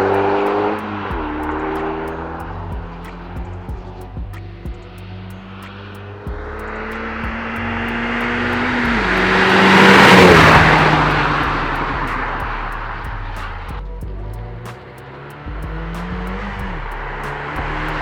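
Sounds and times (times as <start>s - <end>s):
car driving past at speed: 0.0s - 18.0s.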